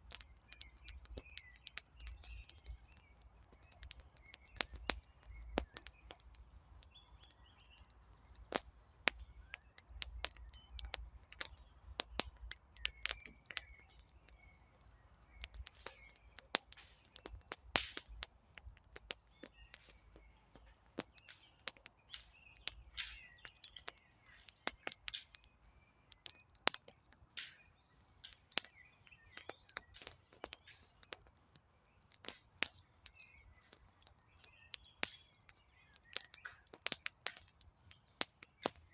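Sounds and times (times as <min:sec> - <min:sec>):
birds chirping: 0:00.0 - 0:38.9
campfire crackling and popping: 0:00.0 - 0:38.9.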